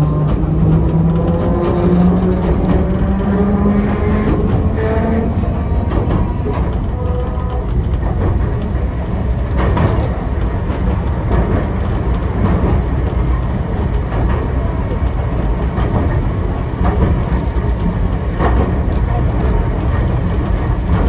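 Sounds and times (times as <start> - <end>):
train rumbling through tunnel: 0.0 - 21.0.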